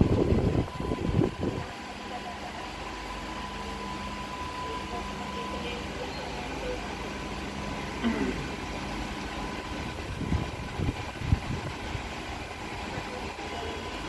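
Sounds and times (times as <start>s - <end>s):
printer mechanical hum: 0.0s - 14.0s.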